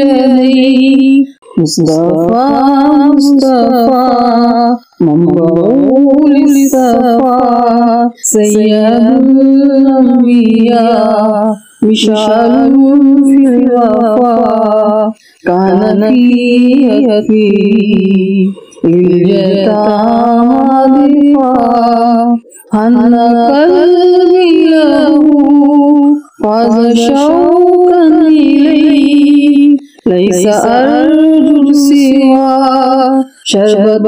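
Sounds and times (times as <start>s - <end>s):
person singing devotional song: 0.0s - 34.0s.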